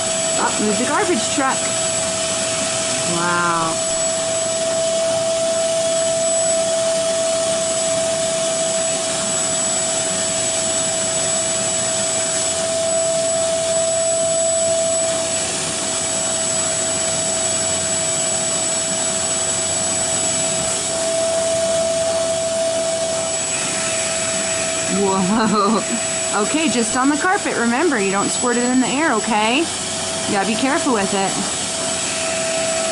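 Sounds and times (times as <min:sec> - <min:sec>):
carpet cleaner suction rushing: 0:00.0 - 0:32.9.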